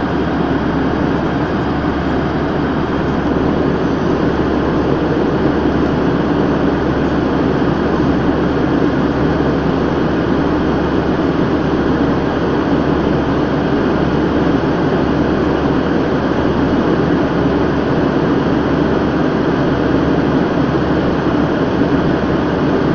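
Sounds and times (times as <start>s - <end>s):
airplane engines droning: 0.0s - 22.9s
constant low hum: 0.0s - 22.9s.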